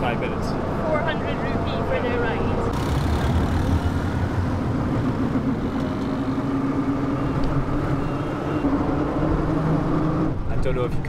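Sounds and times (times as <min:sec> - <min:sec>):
road noise: 0:00.0 - 0:11.0
auto-rickshaw engine running: 0:00.2 - 0:10.9.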